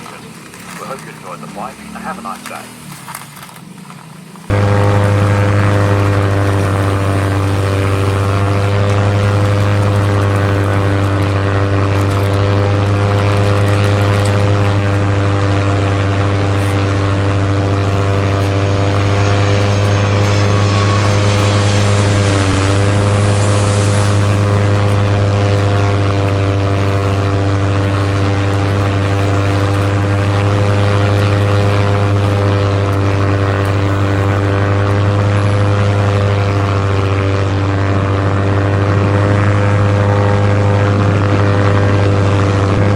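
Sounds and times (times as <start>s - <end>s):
toy aeroplane droning hum: 0.0s - 42.9s.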